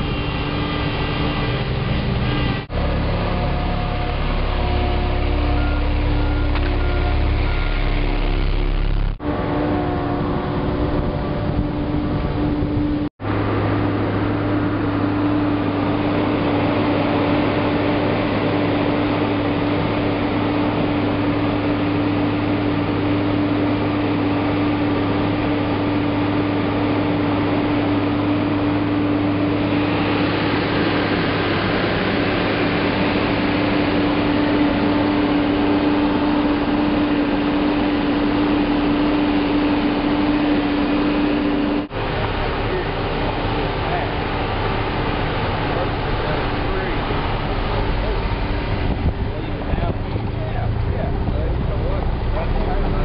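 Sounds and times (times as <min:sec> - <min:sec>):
plant machinery humming: 0:00.0 - 0:53.0.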